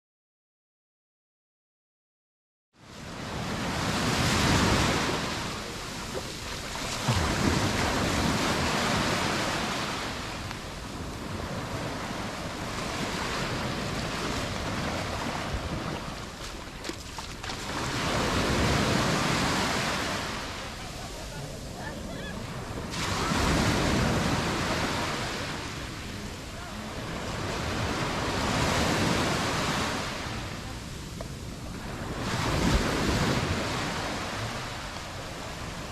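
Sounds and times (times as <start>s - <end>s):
small waves breaking on sand: 2.8s - 35.9s
wind on microphone: 3.0s - 26.3s, 27.1s - 35.9s.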